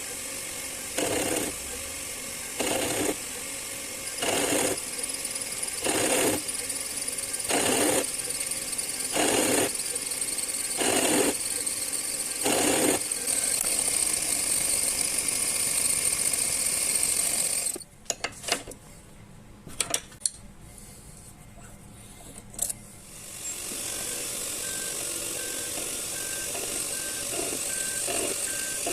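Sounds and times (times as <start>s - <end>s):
metal lathe whining: 0.0s - 17.8s, 23.2s - 28.9s.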